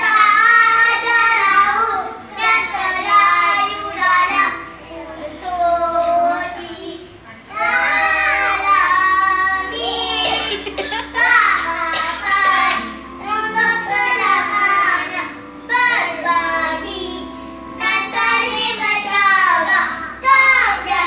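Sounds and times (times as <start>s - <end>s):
children singing a pop song: 0.0s - 21.0s.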